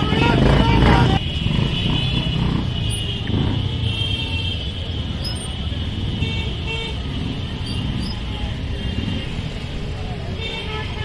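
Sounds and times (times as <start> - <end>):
motorcycle and car engines: 0.0 - 11.0.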